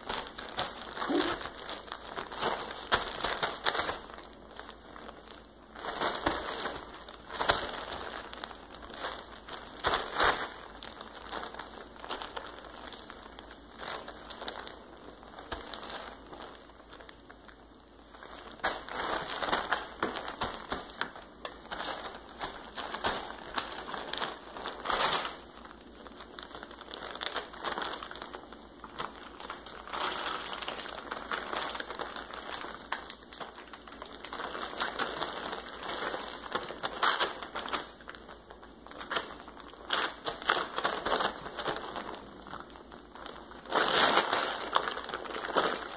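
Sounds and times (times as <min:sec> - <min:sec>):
plastic tarp crinkling: 0:00.0 - 0:45.9.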